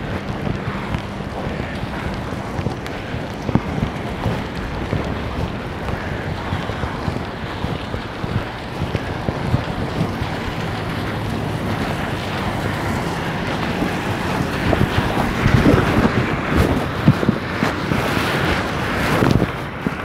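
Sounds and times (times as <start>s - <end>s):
storm wind and rain: 0.0s - 20.0s
wind buffeting microphone: 0.0s - 20.0s.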